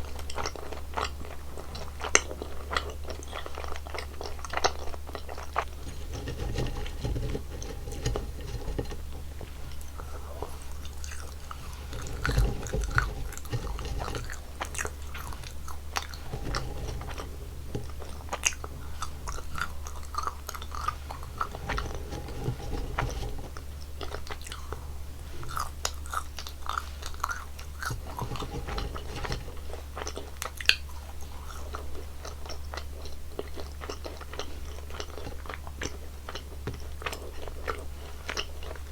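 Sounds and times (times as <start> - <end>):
chewing sticky jelly candies: 0.0 - 38.9
low steady hum: 0.0 - 38.9.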